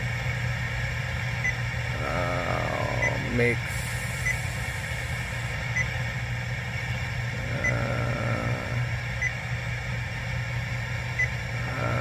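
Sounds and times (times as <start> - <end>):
low hum inside car: 0.0 - 12.0.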